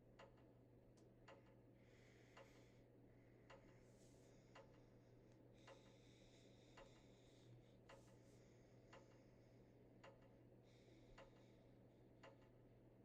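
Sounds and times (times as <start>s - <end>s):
ceiling fan motor hum: 0.0s - 13.0s
soft fan tick: 0.1s - 1.7s, 2.3s - 12.9s.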